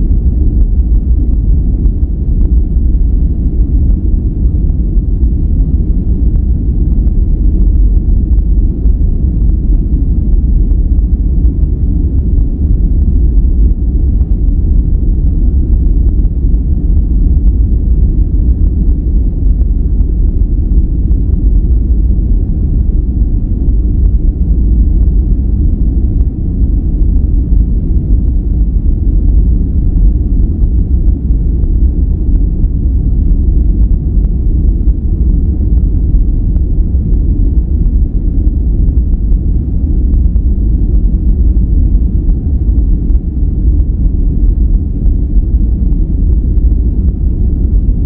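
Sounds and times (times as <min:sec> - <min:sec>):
deep rumbling noise: 0:00.0 - 0:48.0.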